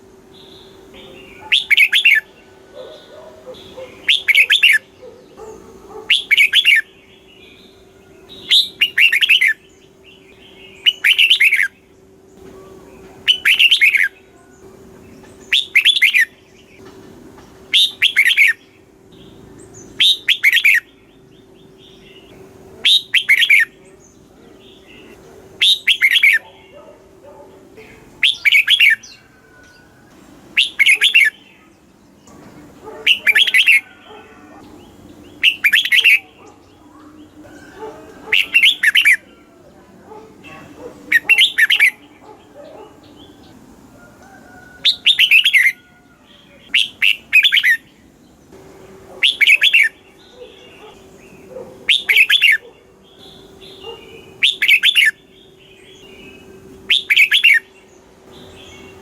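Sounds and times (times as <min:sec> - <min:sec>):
bird singing warbled phrases: 0:00.0 - 0:59.0.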